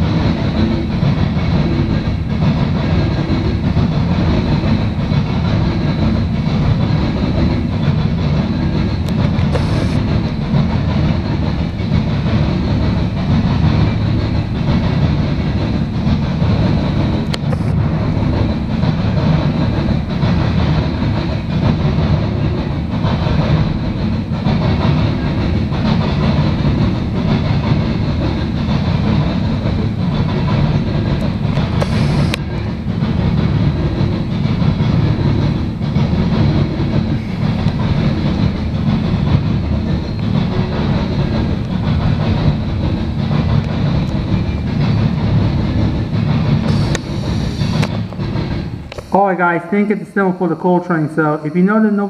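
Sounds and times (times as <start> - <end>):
steel wheels rumbling on rails: 0.0 - 52.0
faint clicks of wheels on track: 0.1 - 38.7, 39.6 - 49.2.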